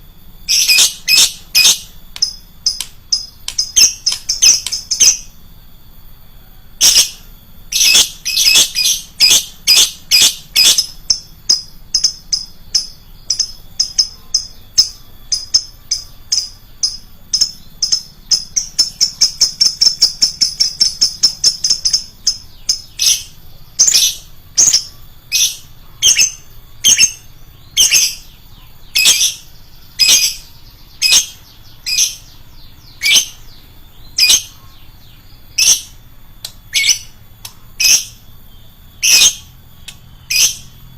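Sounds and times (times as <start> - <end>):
bird shrill chirps: 0.2 - 5.4, 6.4 - 40.9.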